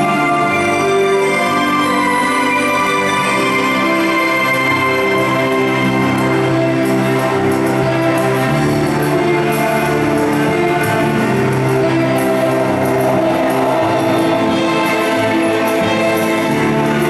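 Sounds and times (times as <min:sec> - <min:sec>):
slow held orchestral chords: 0:00.0 - 0:17.0.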